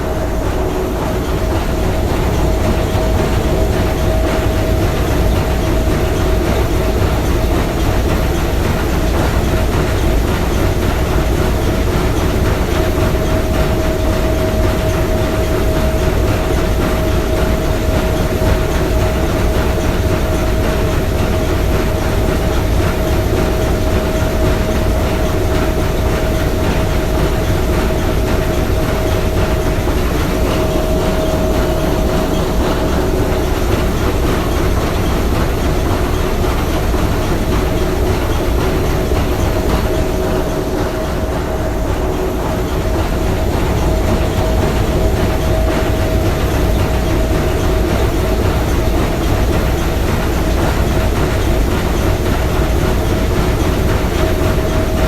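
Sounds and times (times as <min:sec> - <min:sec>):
steam engine clattering: 0:00.0 - 0:55.0.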